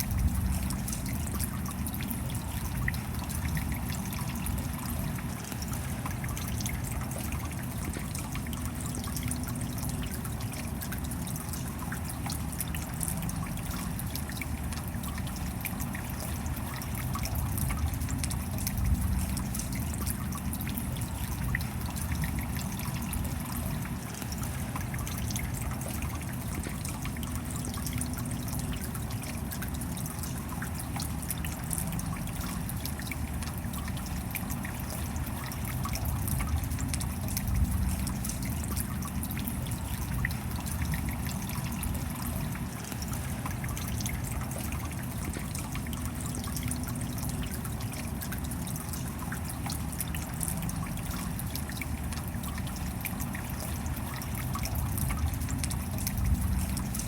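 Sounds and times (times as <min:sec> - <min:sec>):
rain patter: 0:00.0 - 0:57.0
water trickling and dripping: 0:00.0 - 0:57.0.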